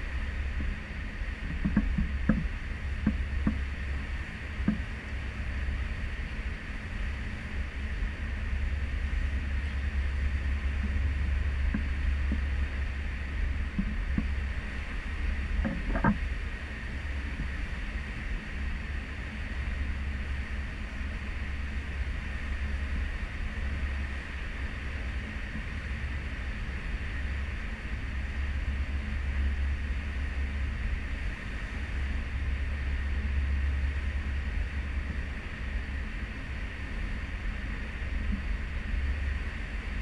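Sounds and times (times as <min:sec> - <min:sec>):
ship low rumble: 0:00.0 - 0:40.0.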